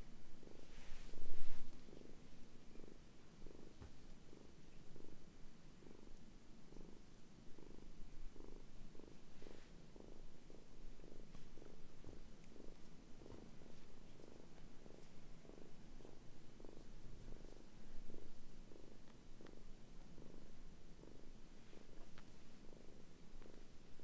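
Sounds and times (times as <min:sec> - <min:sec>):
kitten purring: 0:00.0 - 0:24.0.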